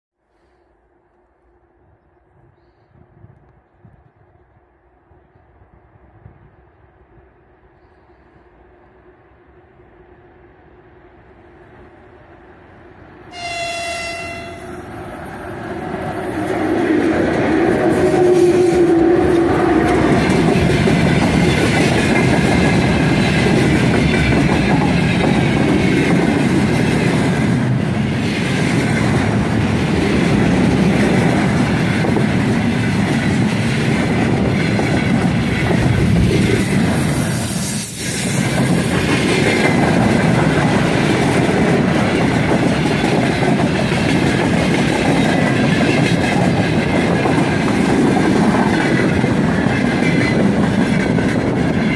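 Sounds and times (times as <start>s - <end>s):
freight train rumbling past: 0.4s - 51.9s.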